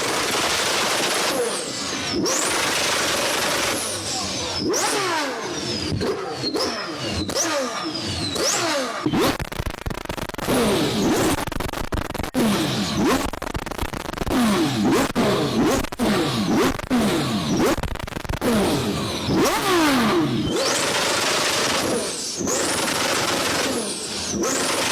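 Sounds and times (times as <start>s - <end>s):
car engine revving: 0.0s - 24.9s
exhaust cracks: 0.0s - 24.9s.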